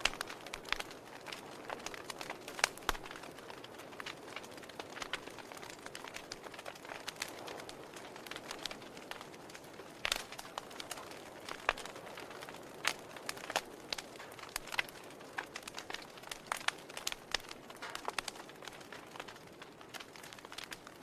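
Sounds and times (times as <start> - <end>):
sharp pops and snaps: 0.0 - 21.0
wood fire crackling: 0.0 - 21.0.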